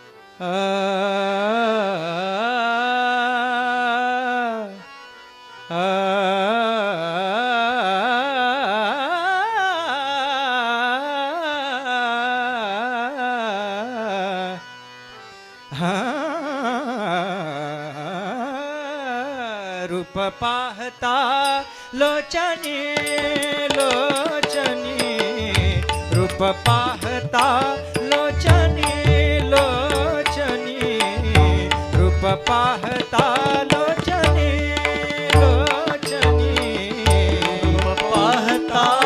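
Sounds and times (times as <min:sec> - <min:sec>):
man singing wordless phrases: 0:00.4 - 0:04.8, 0:05.7 - 0:14.6, 0:15.8 - 0:39.0.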